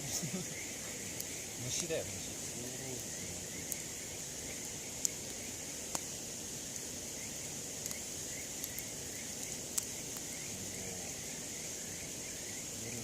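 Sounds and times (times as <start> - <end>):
campfire crackling: 0.0 - 13.0
insects chirping: 0.0 - 13.0.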